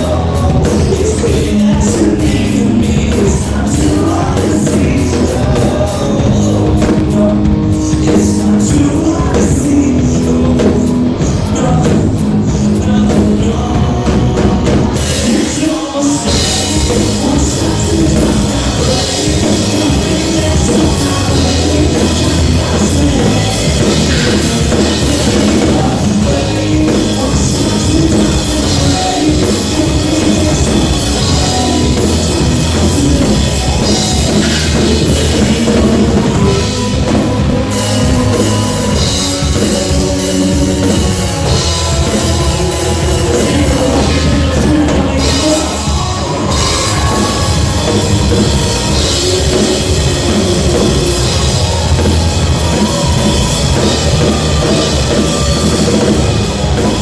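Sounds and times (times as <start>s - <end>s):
drum kit beat: 0.0s - 57.0s
loud rock band playing: 0.0s - 57.0s.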